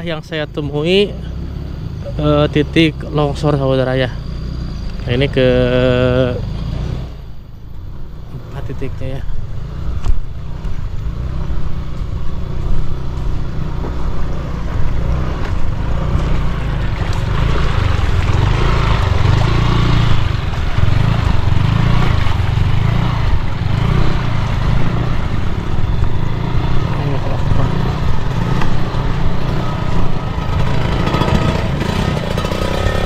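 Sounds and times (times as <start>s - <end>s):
motorcycle engine rumble: 0.0s - 33.0s.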